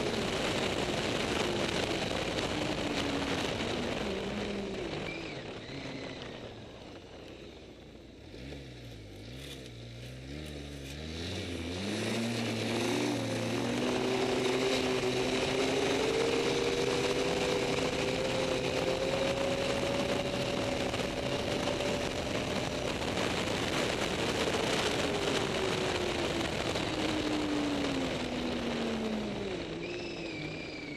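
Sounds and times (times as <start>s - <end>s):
snowmobile engine running: 0.0s - 30.9s
steady rushing noise: 0.0s - 30.9s.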